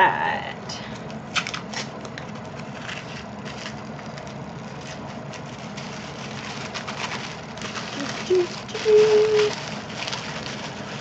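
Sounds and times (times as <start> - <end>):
low background hum: 0.0 - 11.0
paper rustling and crinkling: 1.3 - 11.0.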